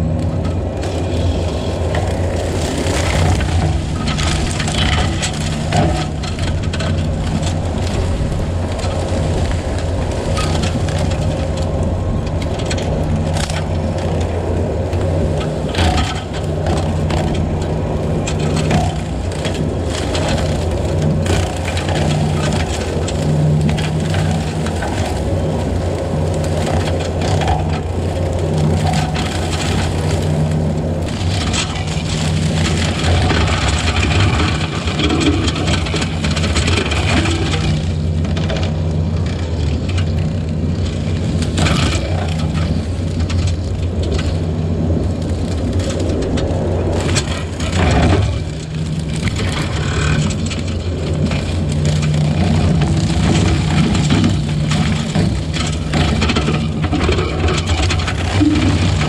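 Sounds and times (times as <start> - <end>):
loader engine running: 0.0 - 59.0
brush cracking and snapping: 0.1 - 59.0.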